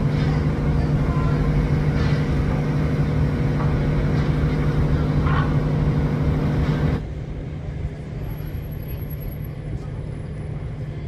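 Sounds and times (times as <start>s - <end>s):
engine humming: 0.0s - 11.0s
faint voices: 0.0s - 11.0s.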